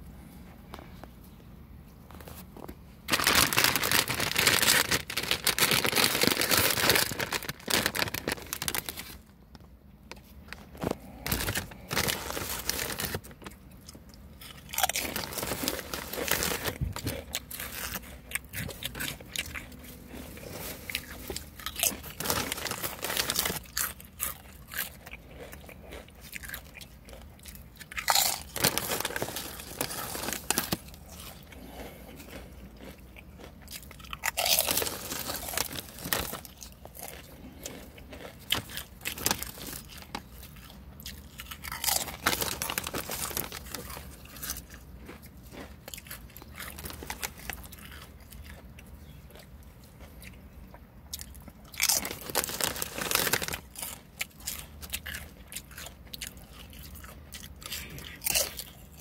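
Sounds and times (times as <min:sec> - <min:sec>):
chip bag crinkling: 0:02.1 - 0:09.4, 0:10.1 - 0:48.6, 0:51.2 - 0:59.0
chips crunching: 0:02.2 - 0:09.3, 0:10.1 - 0:50.4, 0:51.1 - 0:59.0.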